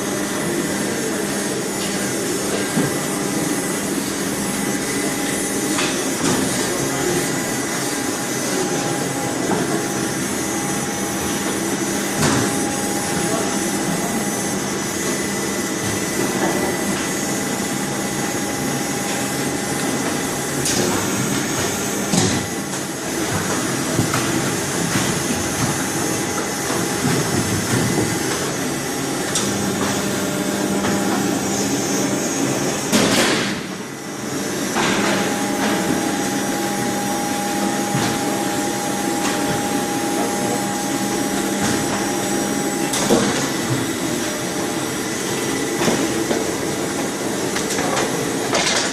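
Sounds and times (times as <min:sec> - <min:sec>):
machinery humming and whirring: 0:00.0 - 0:48.9.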